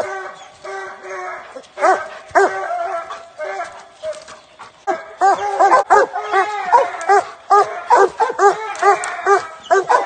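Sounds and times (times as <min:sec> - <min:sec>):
hounds barking: 0:00.0 - 0:10.0.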